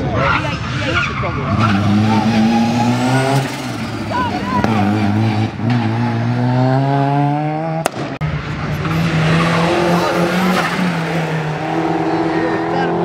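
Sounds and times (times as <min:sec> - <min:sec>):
race car engine accelerating: 0:01.4 - 0:13.0.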